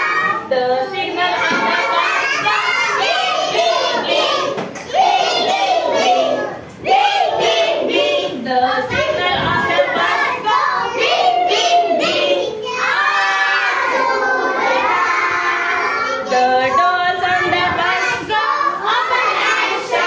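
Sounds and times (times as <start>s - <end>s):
children singing together: 0.0s - 20.0s.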